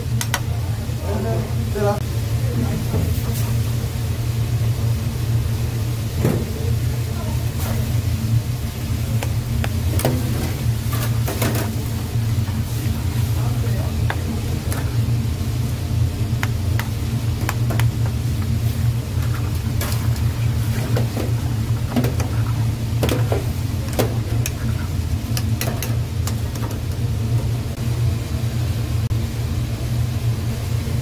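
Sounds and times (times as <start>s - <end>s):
low rumble of kitchen equipment: 0.0s - 31.0s.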